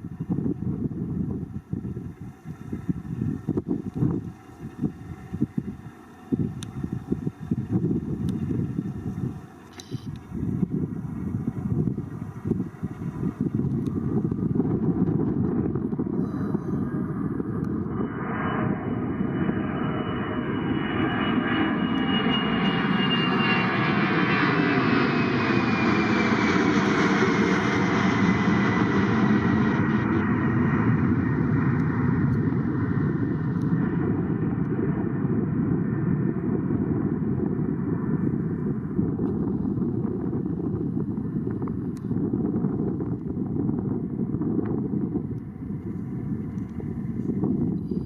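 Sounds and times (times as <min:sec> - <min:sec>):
jet aircraft passing overhead: 0:00.0 - 0:48.0.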